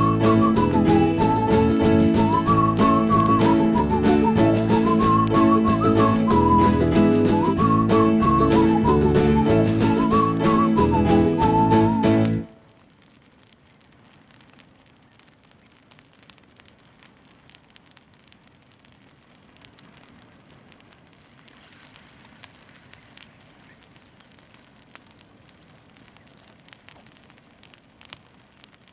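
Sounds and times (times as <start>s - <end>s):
brush fire crackling and popping: 0.0s - 28.9s.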